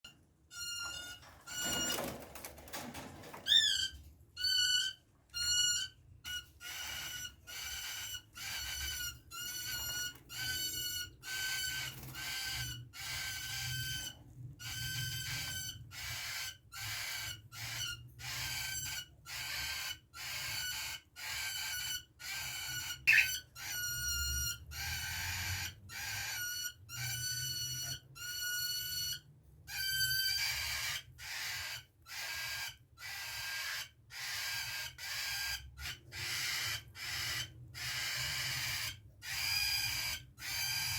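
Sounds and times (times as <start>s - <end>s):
bird chick cheeping: 3.5s - 40.9s.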